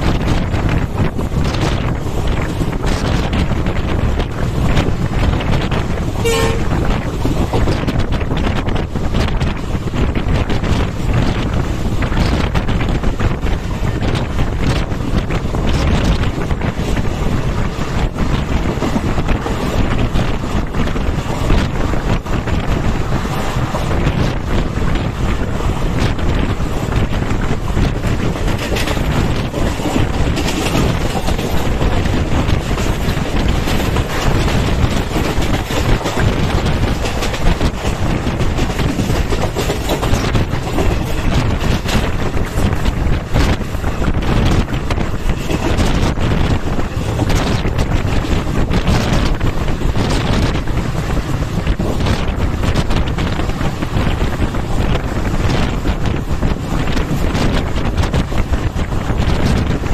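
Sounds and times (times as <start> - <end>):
train running noise: 0.0 - 59.9
wind buffeting microphone: 0.0 - 59.9.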